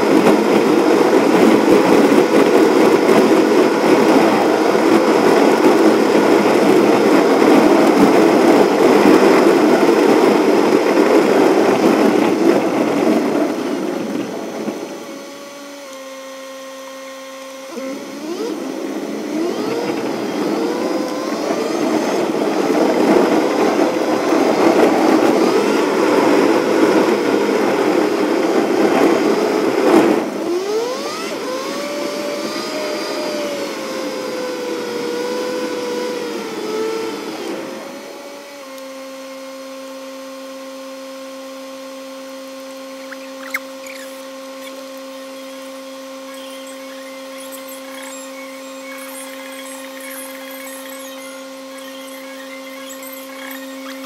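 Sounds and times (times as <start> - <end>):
sped-up car engine whir: 0.0 - 54.0.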